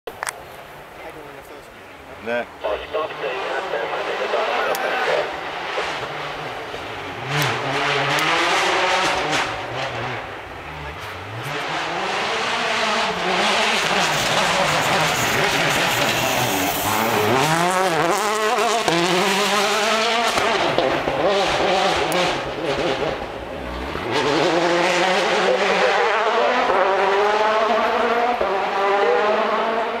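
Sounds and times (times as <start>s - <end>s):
rally car engine revving: 2.6s - 30.0s.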